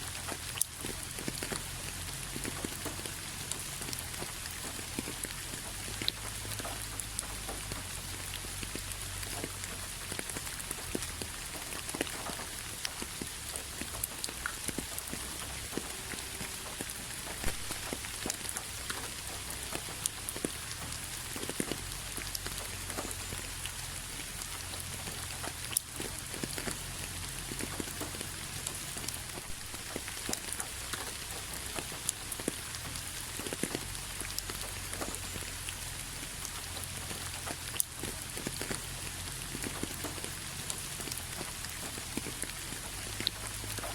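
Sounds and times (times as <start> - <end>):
rain hiss: 0.0 - 43.9
raindrops tapping close by: 0.0 - 43.9.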